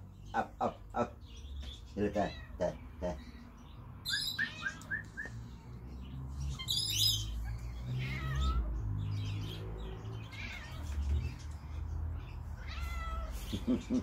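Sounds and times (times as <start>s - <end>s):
cats and kittens meowing: 0.0s - 5.6s, 6.4s - 14.0s.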